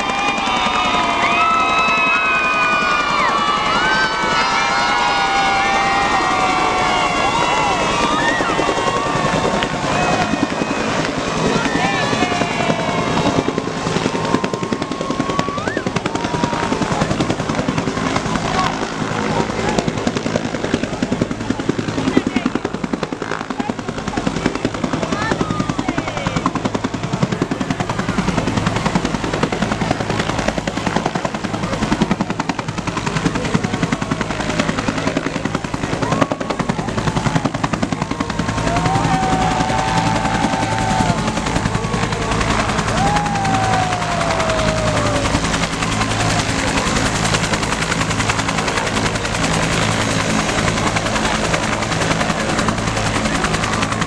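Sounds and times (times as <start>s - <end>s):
helicopter rotor blades beating: 0.0s - 54.0s.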